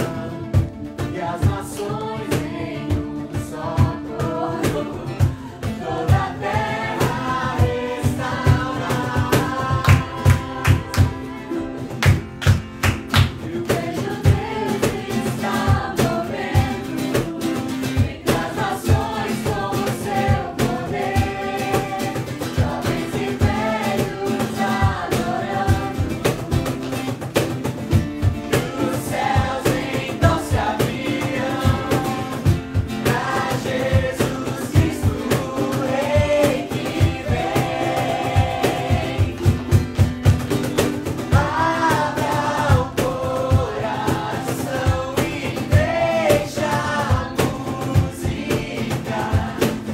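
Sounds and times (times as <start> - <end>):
steady percussive beat: 0.0 - 49.9
voices singing together: 0.0 - 49.9.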